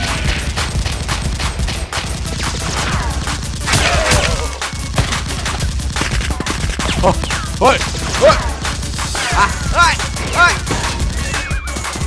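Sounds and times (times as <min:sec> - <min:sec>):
rapid gunfire shots: 0:00.0 - 0:12.0.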